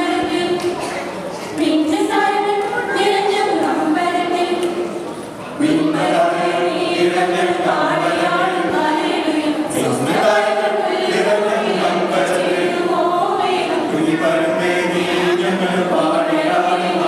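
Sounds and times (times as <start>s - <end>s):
mixed choir singing: 0.0s - 1.0s, 1.6s - 17.0s.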